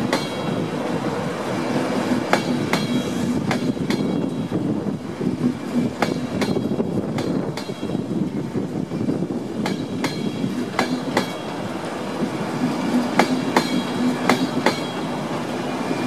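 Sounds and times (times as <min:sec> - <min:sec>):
train hum and rumble: 0:00.0 - 0:16.0
train wheels clicking over rail joints: 0:00.0 - 0:16.0.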